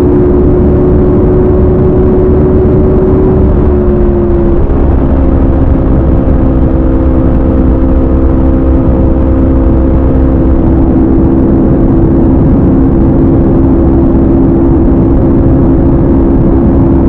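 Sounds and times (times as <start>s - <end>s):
motorcycle engine cruising: 0.0s - 17.0s
wind rush: 0.0s - 17.0s.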